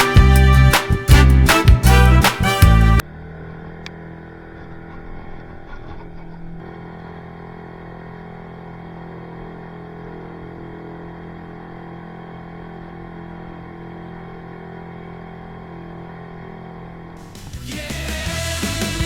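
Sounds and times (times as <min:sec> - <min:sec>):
engine running steadily: 0:00.1 - 0:17.6.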